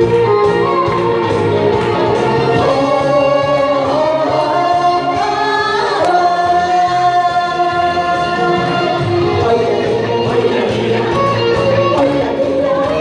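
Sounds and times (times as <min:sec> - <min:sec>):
instrumental accompaniment: 0:00.0 - 0:13.0
person singing: 0:02.1 - 0:13.0.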